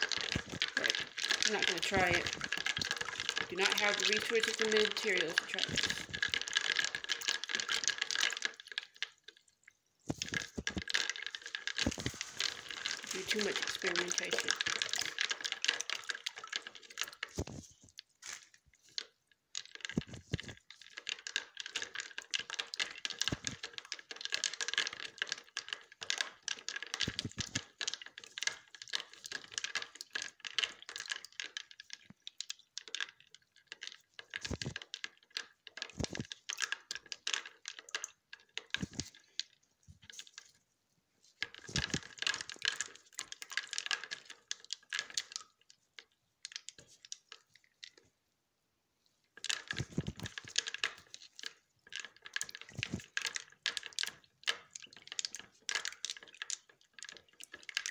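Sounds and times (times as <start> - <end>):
utensil stirring ice in plastic: 0.0 - 48.2, 49.1 - 57.9.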